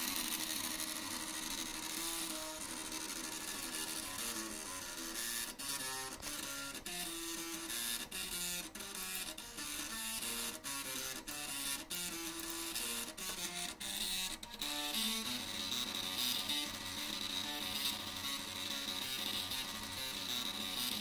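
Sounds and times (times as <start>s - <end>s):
floppy drive motors buzzing riff: 0.0s - 21.0s.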